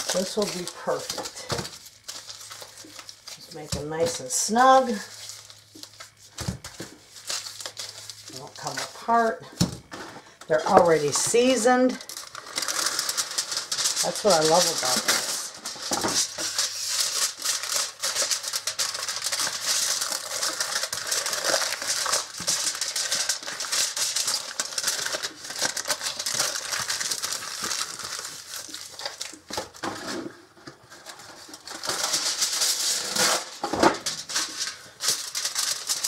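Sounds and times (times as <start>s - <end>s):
aluminum foil crinkling: 0.0s - 36.0s.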